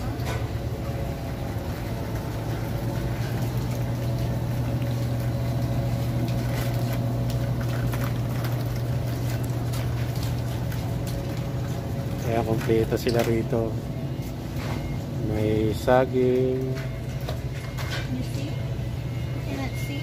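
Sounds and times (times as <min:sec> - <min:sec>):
refrigerator low hum: 0:00.0 - 0:20.0.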